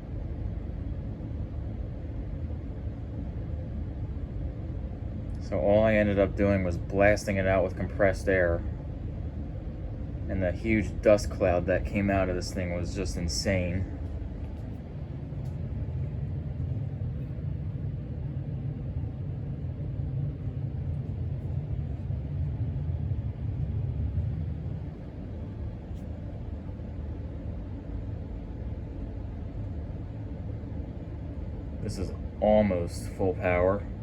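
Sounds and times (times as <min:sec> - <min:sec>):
ceiling fan running: 0:00.0 - 0:34.0.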